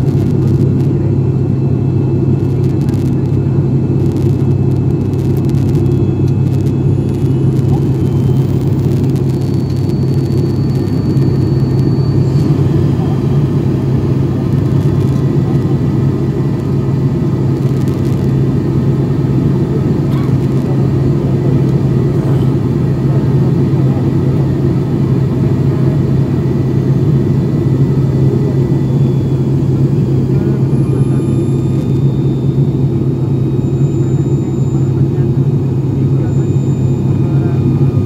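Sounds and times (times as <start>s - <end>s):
constant rushing drone: 0.0s - 38.0s
propeller engines humming: 0.0s - 38.0s.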